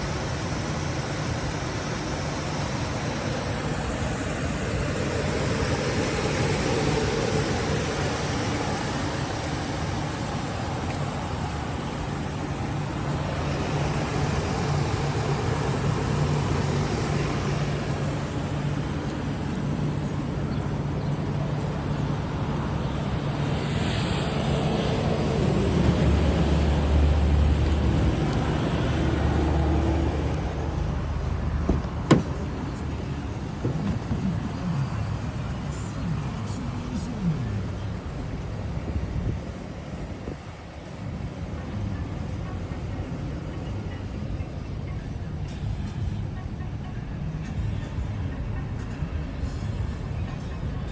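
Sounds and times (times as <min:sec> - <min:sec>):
vehicle engine running: 0:00.0 - 0:46.2
steady wash of noise: 0:00.0 - 0:50.9.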